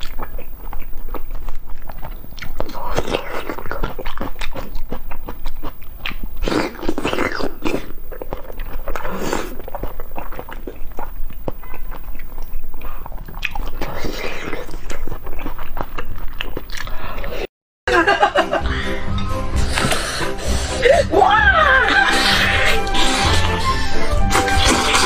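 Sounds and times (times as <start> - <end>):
mouth clicks and smacks: 0.0 - 17.5, 22.1 - 25.0
wet chewing: 0.0 - 17.5, 22.0 - 25.0.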